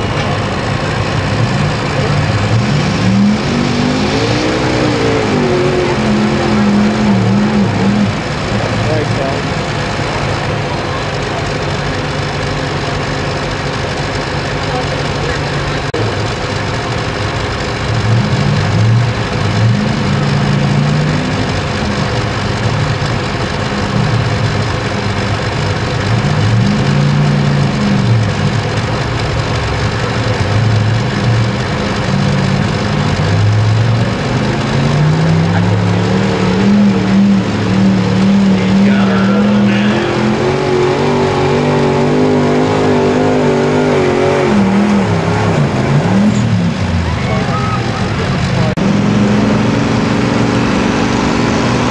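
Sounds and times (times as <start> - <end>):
truck engine revving under load: 0.0 - 51.9.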